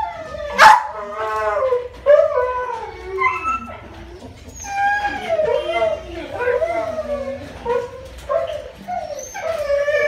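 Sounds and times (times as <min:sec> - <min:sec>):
dog yelping and howling: 0:00.0 - 0:03.8, 0:04.6 - 0:10.0.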